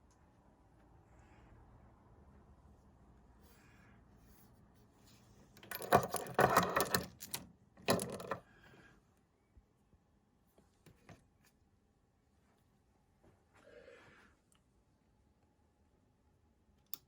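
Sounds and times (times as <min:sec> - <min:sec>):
faint mains hum: 0:00.0 - 0:17.0.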